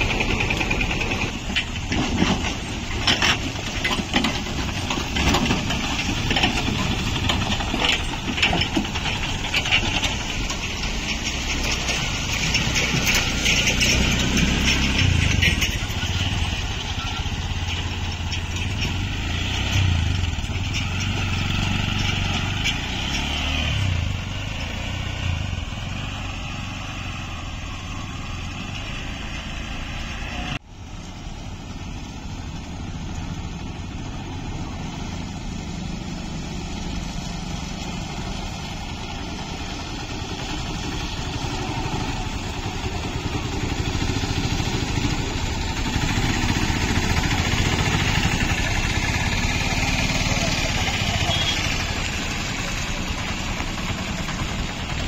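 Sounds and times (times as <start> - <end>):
auto-rickshaw engine passing: 0.0 - 55.0
small vehicle engines passing: 0.0 - 55.0.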